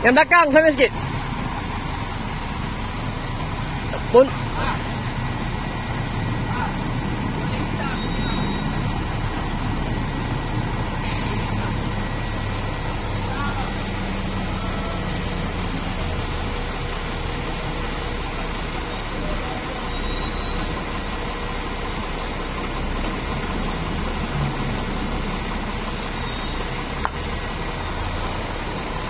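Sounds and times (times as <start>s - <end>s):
diesel engine humming: 0.0s - 29.0s.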